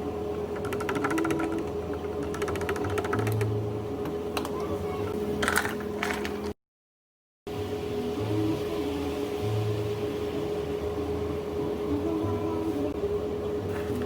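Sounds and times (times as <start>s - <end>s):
steady hum: 0.0s - 6.6s, 7.5s - 14.0s.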